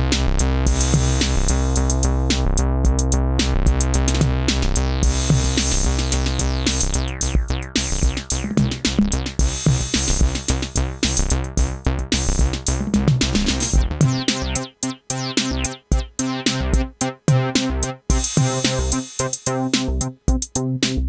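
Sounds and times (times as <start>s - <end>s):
synthesizer bass line: 0.0s - 21.0s
drum machine beat: 0.1s - 21.0s.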